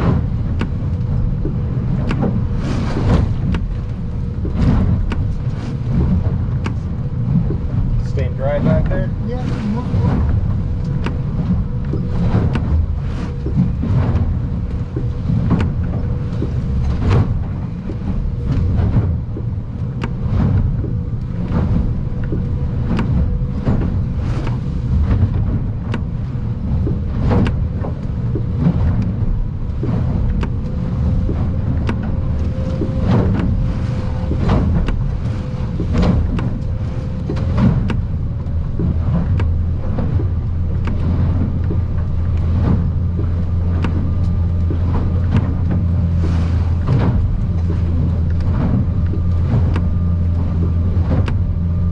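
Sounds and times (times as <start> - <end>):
boat engine droning: 0.0 - 51.9
hull banging on waves: 0.0 - 51.9.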